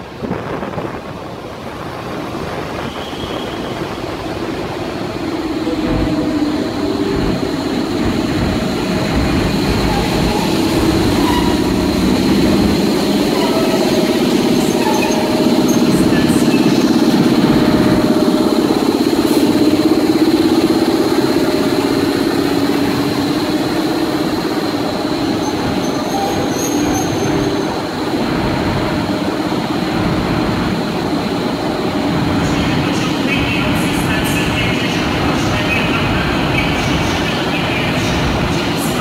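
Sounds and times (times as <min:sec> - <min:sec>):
electric locomotive hum and whine: 0:00.0 - 0:39.0.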